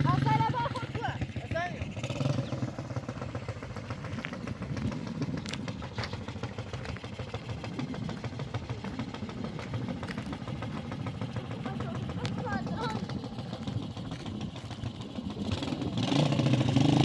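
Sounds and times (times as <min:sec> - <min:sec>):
small petrol engine running: 0:00.0 - 0:17.0.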